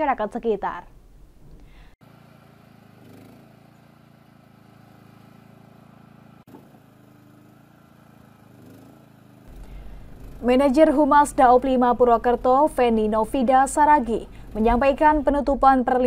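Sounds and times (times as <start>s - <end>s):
generator engine humming: 1.8s - 16.0s.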